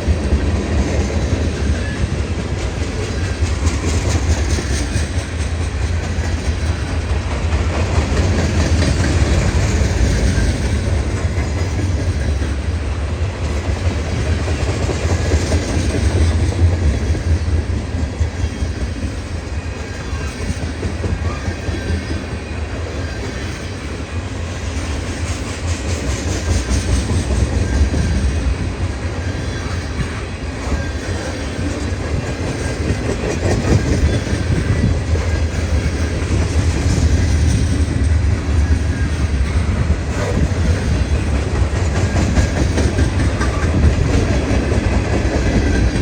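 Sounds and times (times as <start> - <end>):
freight train rumbling: 0.0 - 46.0
wheel and rail noise: 0.0 - 46.0.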